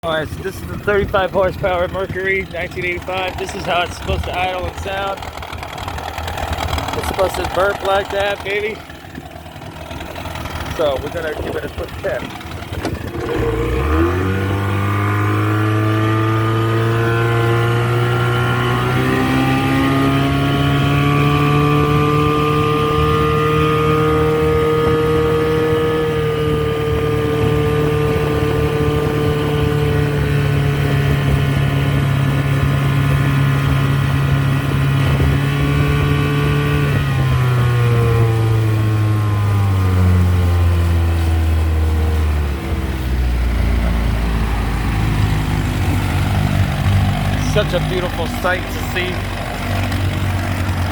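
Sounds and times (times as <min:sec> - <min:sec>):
outboard motor revving: 0:00.0 - 0:50.9.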